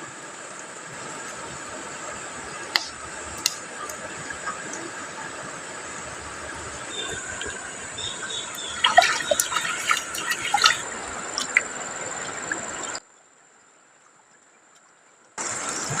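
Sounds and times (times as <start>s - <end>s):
water trickling and dripping: 0.2s - 16.0s.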